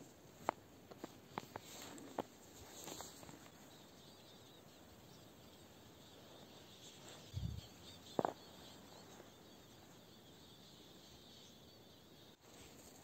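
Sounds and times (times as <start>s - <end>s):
faint high twittering: 0.4s - 13.0s.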